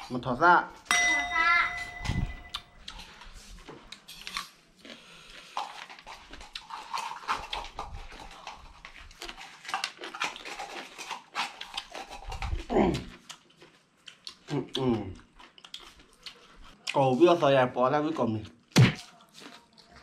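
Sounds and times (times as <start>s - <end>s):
wet chewing and lip-smacking: 2.5s - 20.0s.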